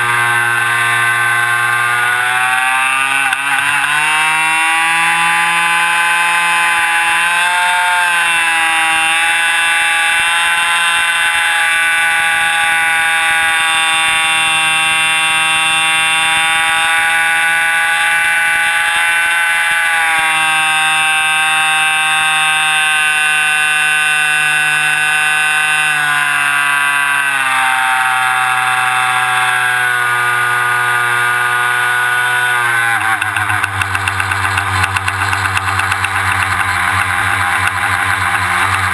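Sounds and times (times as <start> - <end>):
model plane engine at high throttle: 0.0 - 38.9.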